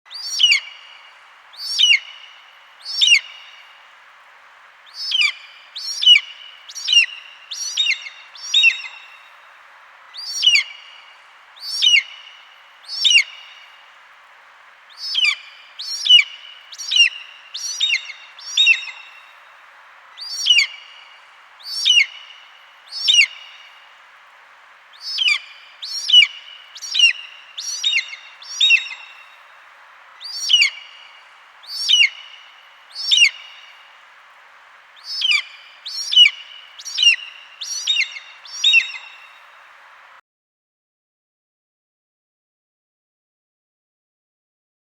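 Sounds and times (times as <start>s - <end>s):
faint steady hiss: 0.1s - 40.2s.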